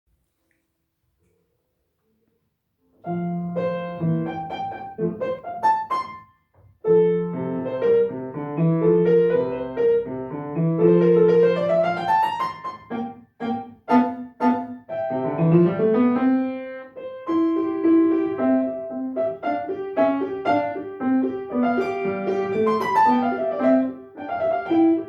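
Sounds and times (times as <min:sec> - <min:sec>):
solo piano classical piece: 0:02.9 - 0:25.0.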